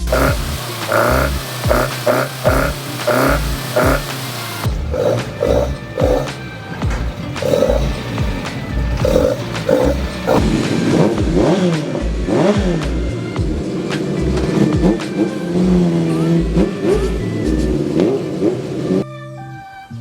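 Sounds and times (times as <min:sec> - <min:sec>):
music with steady beat: 0:00.0 - 0:18.2
engine revving: 0:00.0 - 0:19.0.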